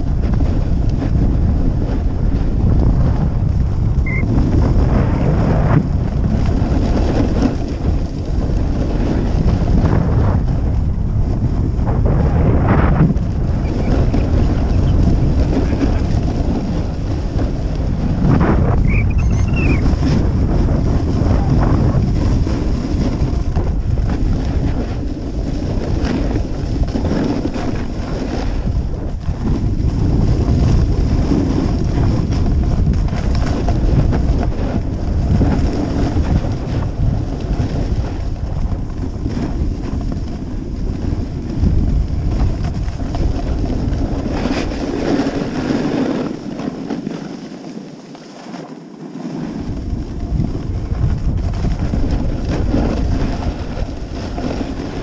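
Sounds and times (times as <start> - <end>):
wind buffeting microphone: 0.0 - 47.3, 49.4 - 55.0.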